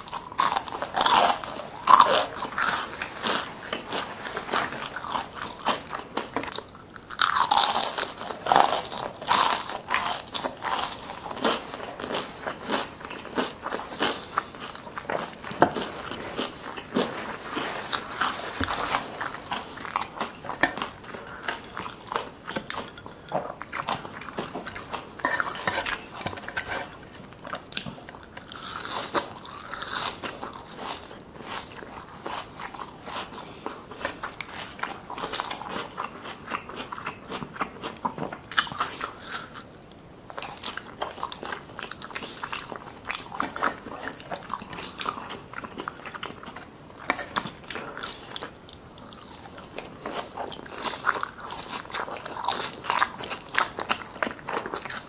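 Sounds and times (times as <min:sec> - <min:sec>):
crunchy fried food chewing: 0:00.0 - 0:55.0.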